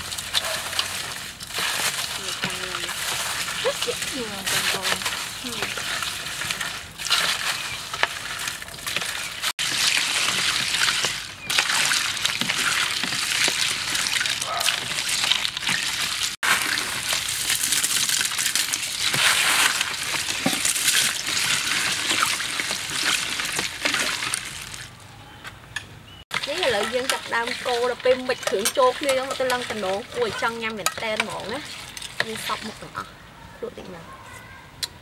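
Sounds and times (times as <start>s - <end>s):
ice sloshing and clinking in metal bowl: 0.0s - 24.9s, 26.3s - 33.0s.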